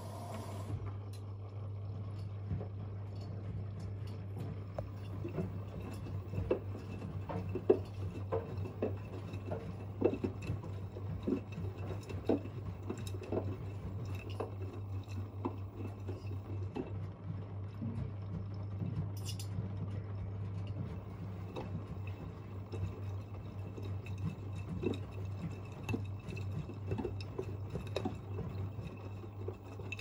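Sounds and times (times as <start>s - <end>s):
washing machine hum: 0.0s - 30.0s
wet laundry splashing in drum: 3.6s - 30.0s.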